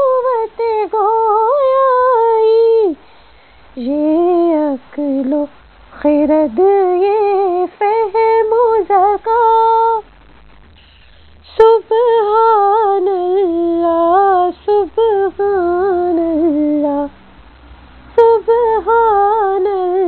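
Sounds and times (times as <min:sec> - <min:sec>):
woman singing unaccompanied: 0:00.0 - 0:03.1, 0:03.8 - 0:10.1, 0:11.4 - 0:17.2, 0:18.1 - 0:20.0.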